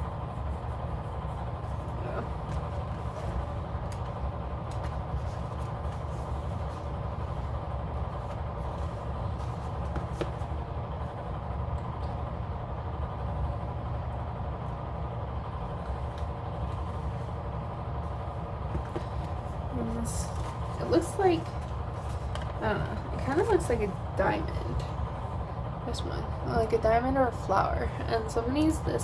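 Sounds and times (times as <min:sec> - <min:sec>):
low droning hum: 0:00.0 - 0:29.0.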